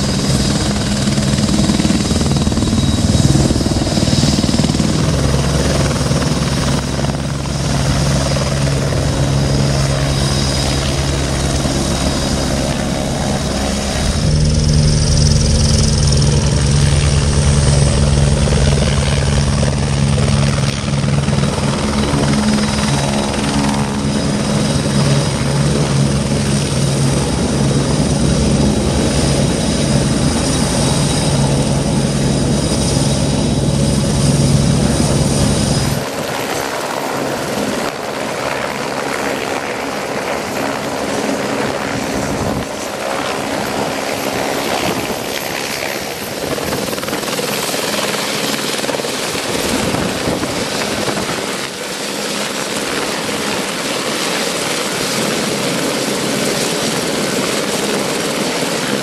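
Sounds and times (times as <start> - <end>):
helicopter rotor and turbine: 0.0 - 59.0.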